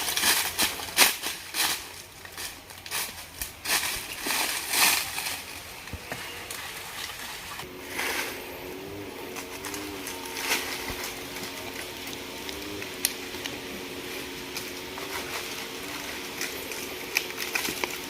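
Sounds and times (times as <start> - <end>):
dry vegetation crunching and rustling: 0.0 - 18.0.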